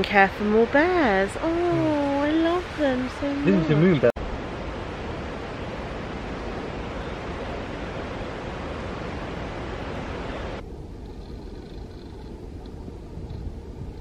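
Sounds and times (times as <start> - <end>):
rushing outdoor noise: 0.0 - 14.0.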